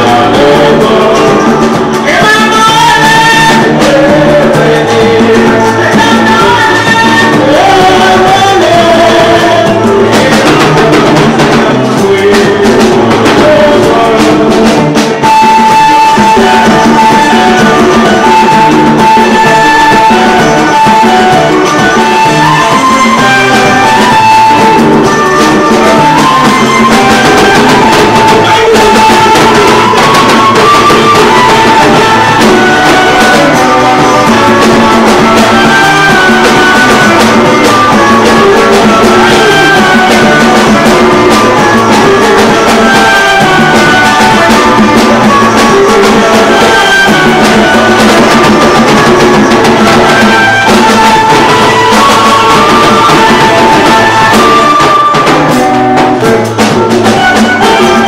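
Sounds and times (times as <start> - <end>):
live band music: 0.0 - 58.0.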